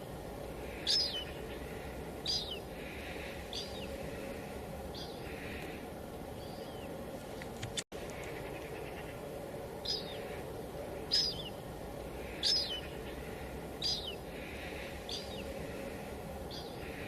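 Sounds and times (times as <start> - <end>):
bird calling: 0.0 - 17.0
light drizzle hissing: 0.0 - 17.0.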